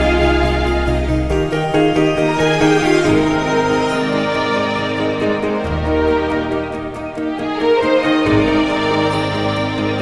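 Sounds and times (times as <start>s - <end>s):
sustained harmony music: 0.0s - 10.0s.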